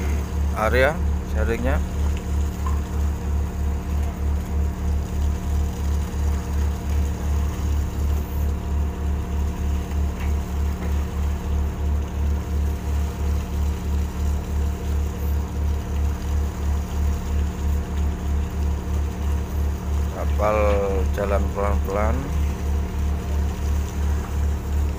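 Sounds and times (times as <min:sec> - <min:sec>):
boat engine pulsing drone: 0:00.0 - 0:24.9.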